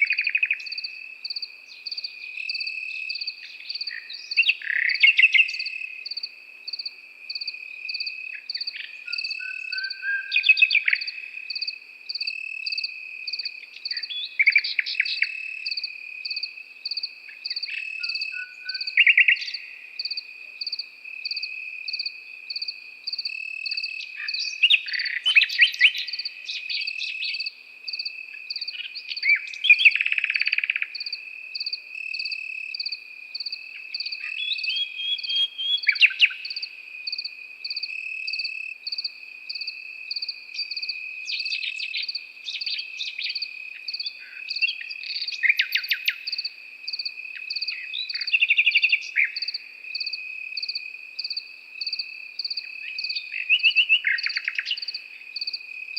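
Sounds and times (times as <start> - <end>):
crickets trilling and chirping: 0.0 - 55.9
nightingale singing: 0.0 - 55.9.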